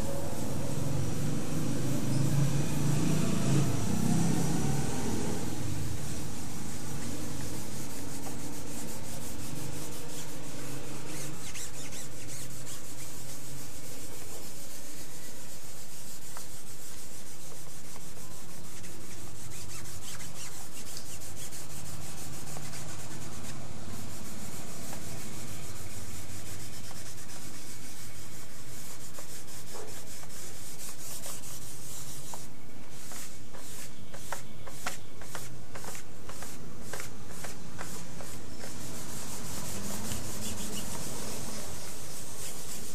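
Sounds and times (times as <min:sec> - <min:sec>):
cotton balls rubbing paper: 0:04.2 - 0:42.9.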